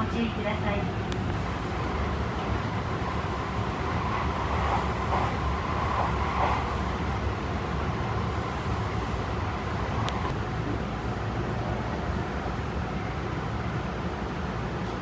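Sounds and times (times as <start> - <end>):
electric train carriage noise: 0.0 - 15.0.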